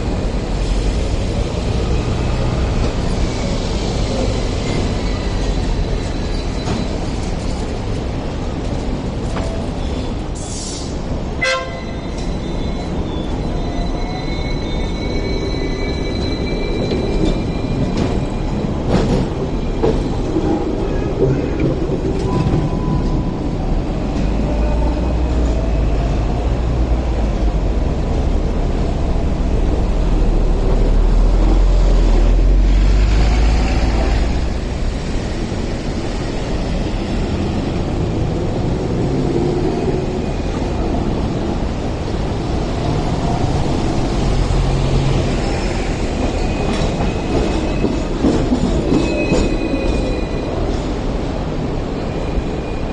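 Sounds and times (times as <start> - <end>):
street traffic: 0.0 - 52.9
tram wheel squeal: 0.1 - 27.4, 28.8 - 52.9.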